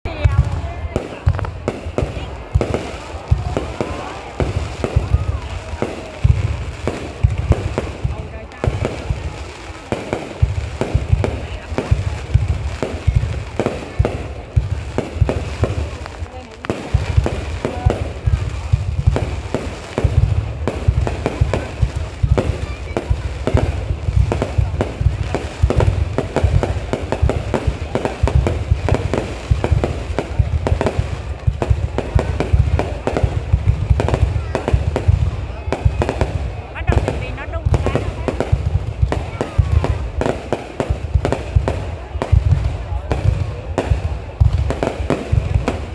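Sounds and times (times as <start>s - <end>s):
fireworks bangs: 0.0s - 45.9s.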